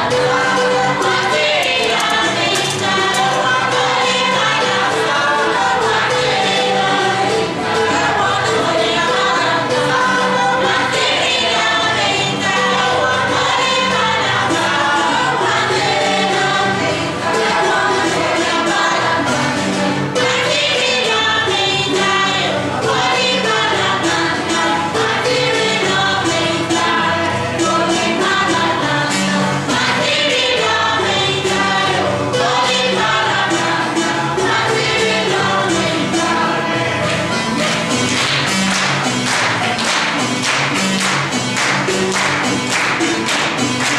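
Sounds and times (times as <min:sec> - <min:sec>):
choir singing held notes: 0:00.0 - 0:43.9
percussion steady beat: 0:00.0 - 0:43.9.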